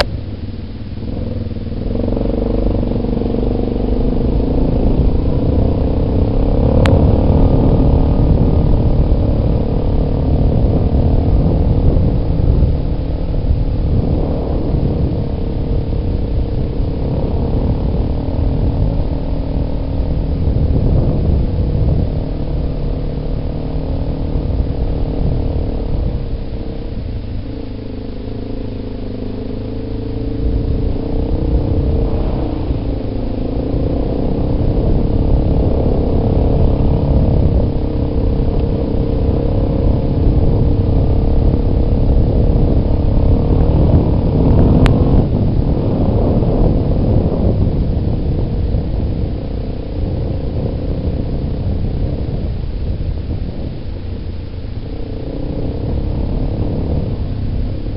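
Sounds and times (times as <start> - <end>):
quad engine running: 0.0 - 57.9
rumble from riding on dirt: 0.0 - 57.9.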